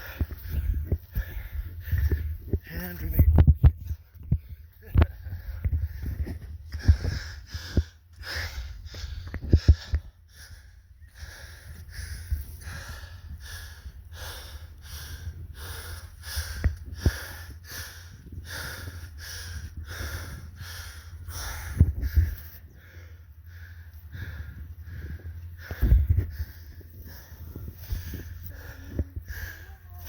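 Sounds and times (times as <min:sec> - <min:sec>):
low rumble: 0:00.0 - 0:30.0
heavy rhythmic panting: 0:04.1 - 0:30.0.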